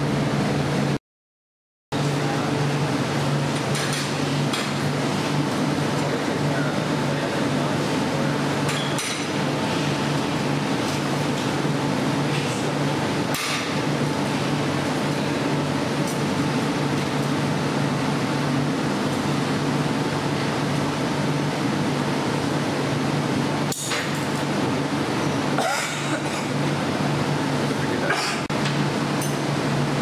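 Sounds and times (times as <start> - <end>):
equipment roaring and humming: 0.0 - 1.0, 2.0 - 30.0.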